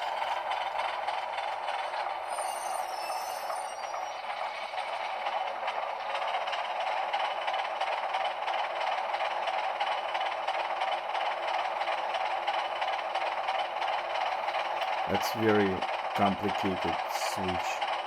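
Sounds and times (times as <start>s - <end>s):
diesel engine sound from small speaker: 0.0s - 18.0s.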